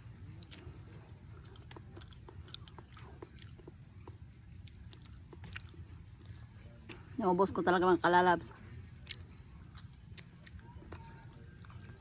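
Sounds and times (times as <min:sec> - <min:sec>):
low background rumble: 0:00.0 - 0:12.0
mouth chewing sounds: 0:00.0 - 0:12.0.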